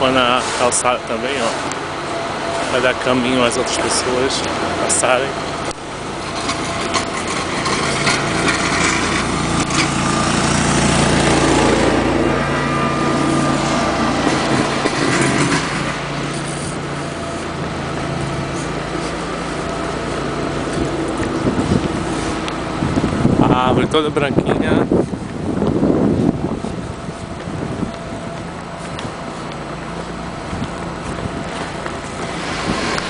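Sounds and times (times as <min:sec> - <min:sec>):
small engine running: 0:00.1 - 0:33.0.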